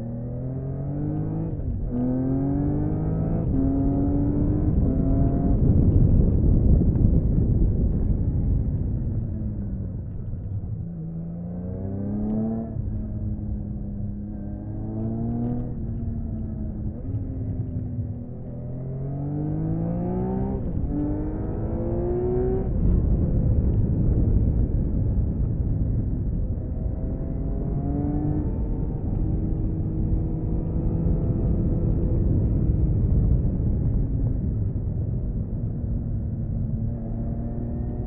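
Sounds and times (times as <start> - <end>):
motorcycle engine accelerating: 0.0 - 38.0
wind on microphone: 0.0 - 38.0.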